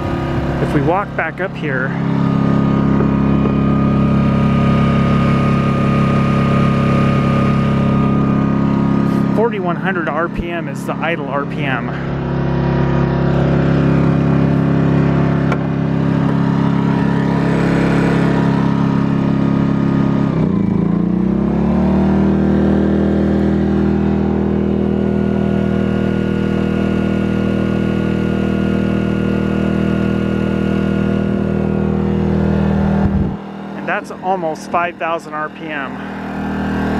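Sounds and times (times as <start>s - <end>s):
generator engine running: 0.0s - 36.9s.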